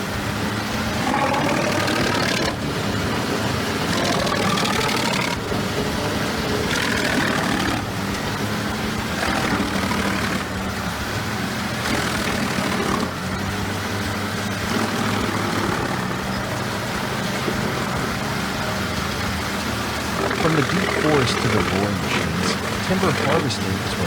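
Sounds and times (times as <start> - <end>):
wood chipper engine running: 0.0 - 24.0.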